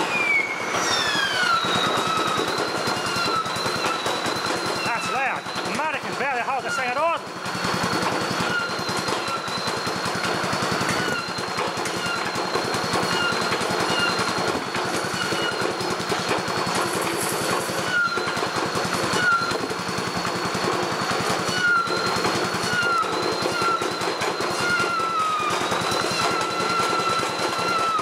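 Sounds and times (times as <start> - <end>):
generator rattling buzz: 0.0 - 28.0.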